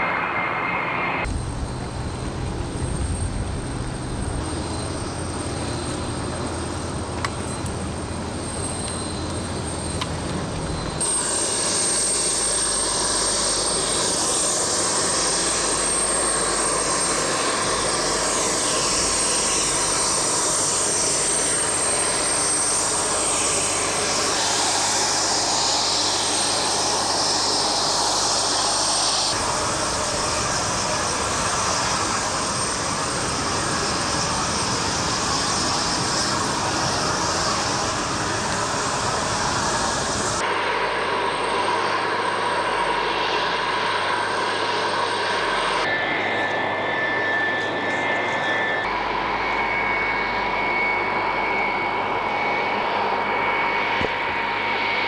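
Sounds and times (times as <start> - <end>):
jet engines rushing: 0.0 - 55.0
high thin engine whine: 0.9 - 55.0.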